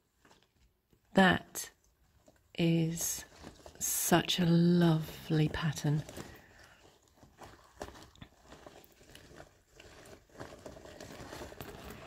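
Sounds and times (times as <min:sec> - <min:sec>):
latex sheet rustling and crackling: 0:00.0 - 0:12.0.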